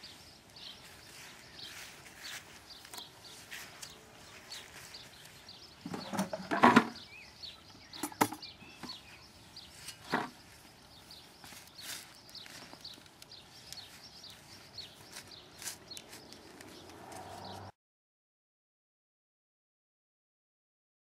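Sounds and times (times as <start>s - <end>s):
birds chirping: 0.0s - 17.7s.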